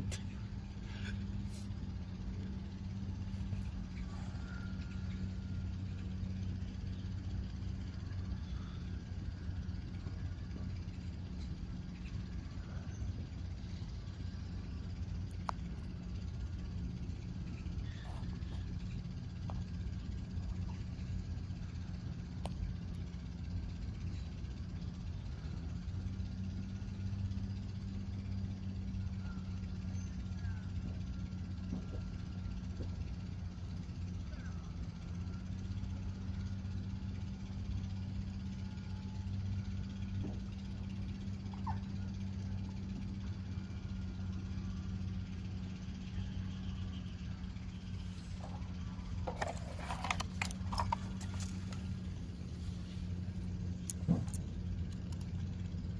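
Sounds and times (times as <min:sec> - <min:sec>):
engine idling hum: 0:00.0 - 0:55.9.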